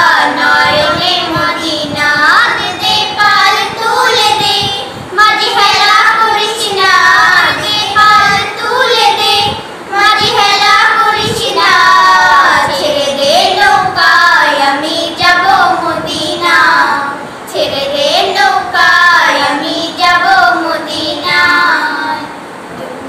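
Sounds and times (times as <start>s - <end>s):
girls singing devotional song: 0.0s - 22.7s.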